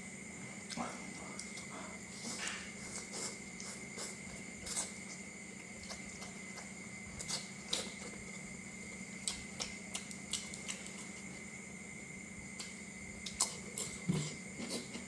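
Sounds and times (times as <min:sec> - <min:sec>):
steady electrical hum: 0:00.0 - 0:15.0
person chewing food: 0:00.6 - 0:11.5, 0:12.5 - 0:15.0.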